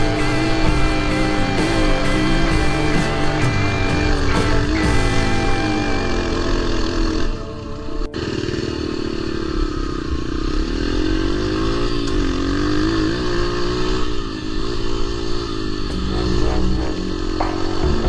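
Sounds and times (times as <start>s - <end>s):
dirt bike engine: 0.0s - 18.0s.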